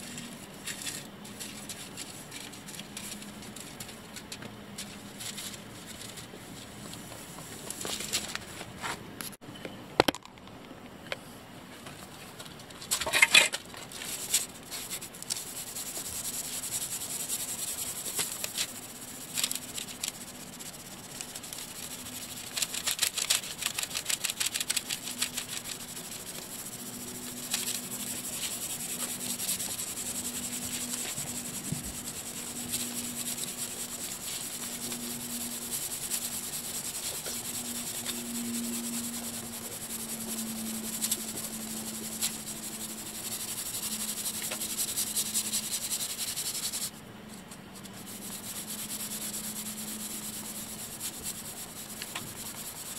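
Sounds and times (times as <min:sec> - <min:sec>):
sandpaper rubbing: 0:00.0 - 0:04.2, 0:13.9 - 0:46.9, 0:47.8 - 0:52.9.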